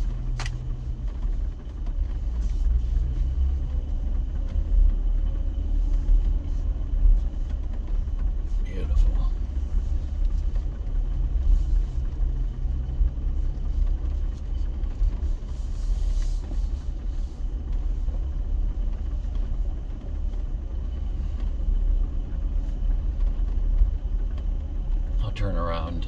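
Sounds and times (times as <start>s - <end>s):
engine and tyres rumbling: 0.0s - 26.0s.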